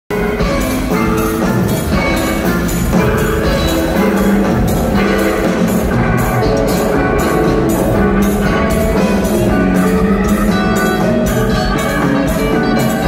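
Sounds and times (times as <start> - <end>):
cymbals keeping steady beat: 0.1 - 13.0
live band instrumental jam: 0.1 - 13.0.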